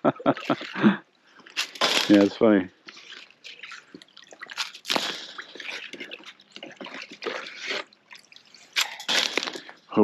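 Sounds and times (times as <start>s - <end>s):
ice and slush sloshing: 0.2s - 10.0s.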